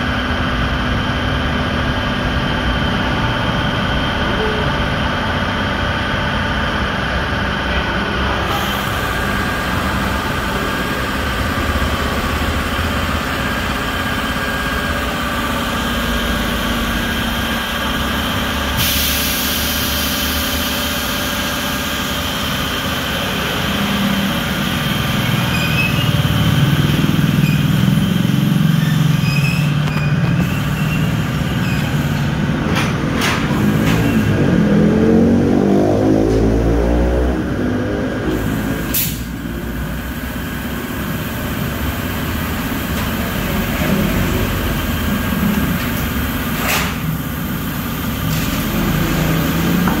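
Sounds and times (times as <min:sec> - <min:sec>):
motor engines running: 0:00.0 - 0:50.0.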